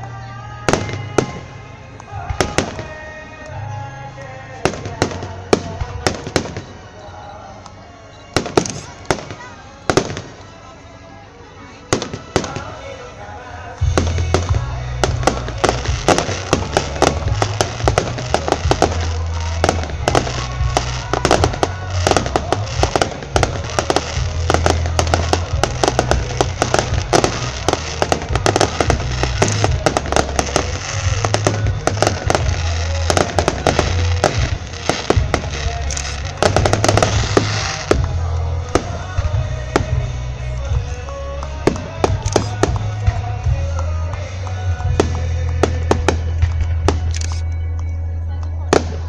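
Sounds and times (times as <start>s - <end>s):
music playing: 0.0s - 49.0s
fireworks bangs and crackles: 0.5s - 3.6s, 4.2s - 6.9s, 8.3s - 10.6s, 11.9s - 13.1s, 13.8s - 47.9s, 48.6s - 49.0s.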